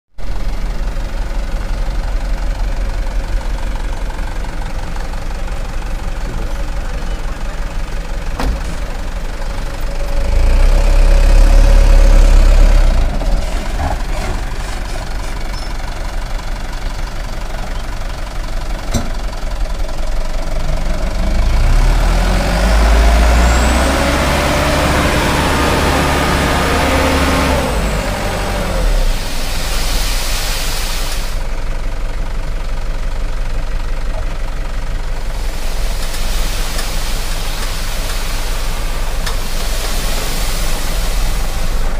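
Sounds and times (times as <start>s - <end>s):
diesel engine idling and revving: 0.1s - 41.9s.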